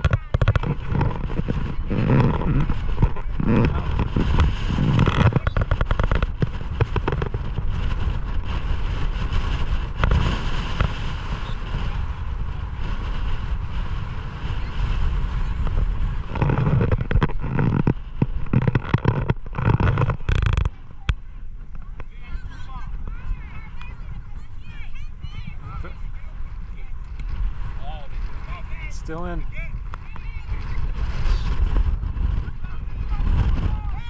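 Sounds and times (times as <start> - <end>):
fine crackling: 0.0 - 33.9
wind buffeting microphone: 0.0 - 34.0.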